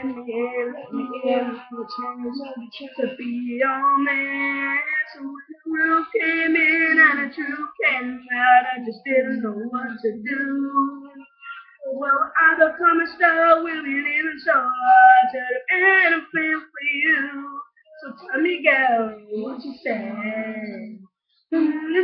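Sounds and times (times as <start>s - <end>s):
boy singing unaccompanied: 0.0s - 22.0s.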